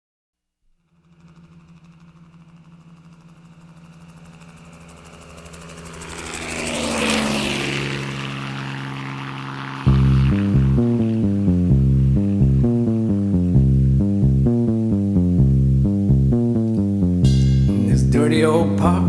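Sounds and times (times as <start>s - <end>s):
helicopter passing by: 0.8s - 19.0s.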